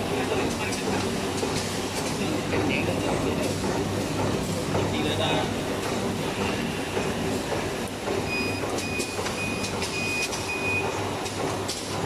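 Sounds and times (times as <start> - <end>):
machine hum and clatter: 0.0 - 12.0.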